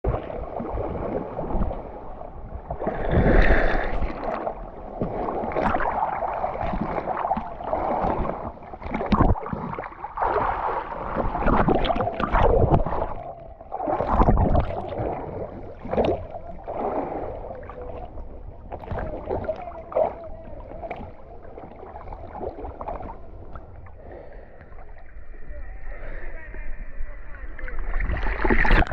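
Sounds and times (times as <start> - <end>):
loud water splashes: 2.7 - 24.3, 27.3 - 28.9.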